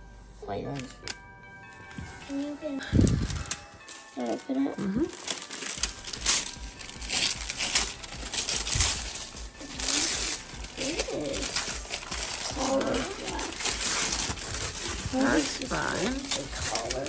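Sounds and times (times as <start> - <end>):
wrapping paper crinkling and tearing: 2.3 - 17.0.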